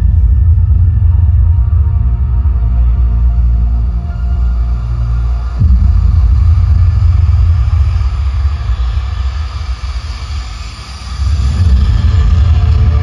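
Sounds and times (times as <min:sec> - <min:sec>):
deep bass rumble: 0:00.0 - 0:13.0.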